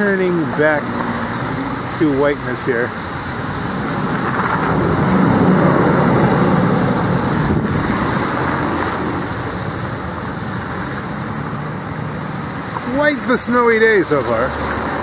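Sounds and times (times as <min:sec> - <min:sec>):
tyres hissing through snow: 0:00.1 - 0:15.0.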